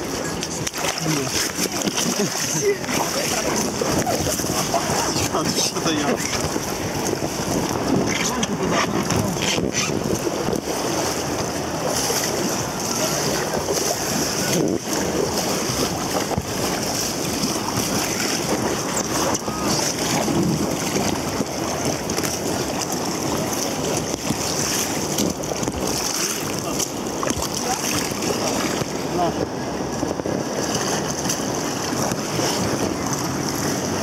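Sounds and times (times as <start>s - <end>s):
river water rushing: 0.0s - 34.0s
wind buffeting microphone: 0.0s - 34.0s.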